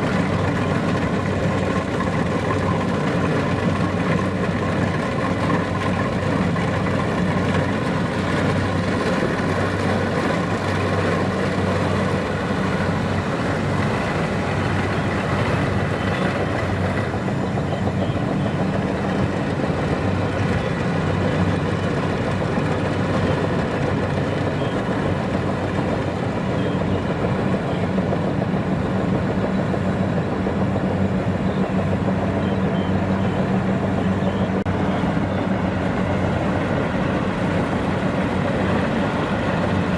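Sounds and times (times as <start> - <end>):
combine harvester diesel engine running: 0.0 - 39.9.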